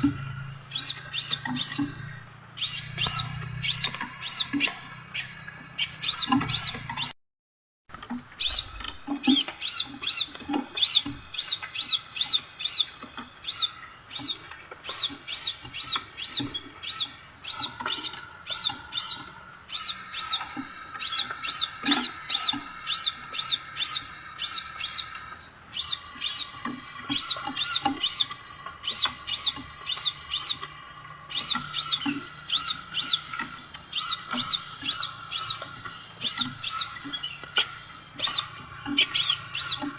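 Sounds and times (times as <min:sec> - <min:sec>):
bird high sweeping chirps: 0:00.0 - 0:07.1, 0:08.3 - 0:39.9
lower bird chatter: 0:00.0 - 0:07.2, 0:07.9 - 0:39.9.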